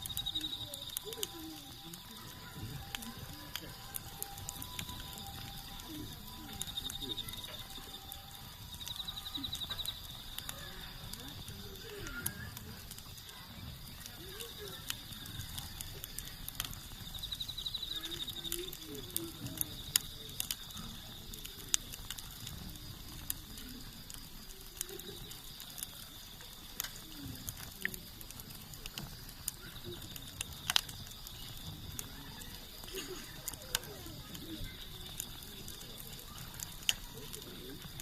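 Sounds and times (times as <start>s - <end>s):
campfire crackling and popping: 0.0s - 38.0s
low fire rumble: 0.0s - 38.0s.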